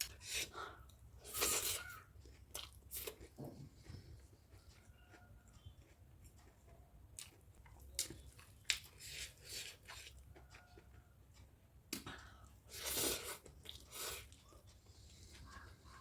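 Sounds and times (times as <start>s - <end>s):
crunching and chewing: 0.0s - 16.0s.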